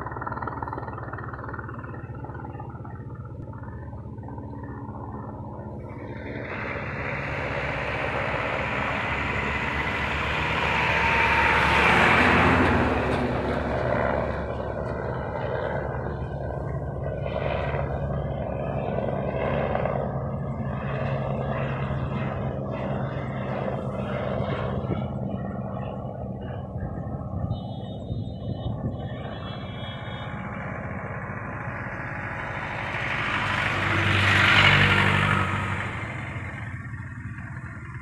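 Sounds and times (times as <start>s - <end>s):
helicopter engine and rotor: 0.0s - 38.0s.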